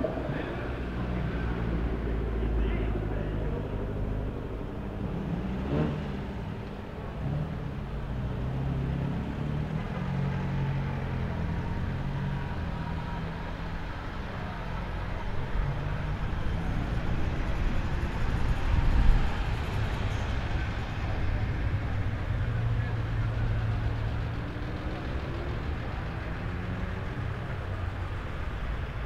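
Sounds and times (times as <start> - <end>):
car engines running at low revs: 0.0 - 29.0.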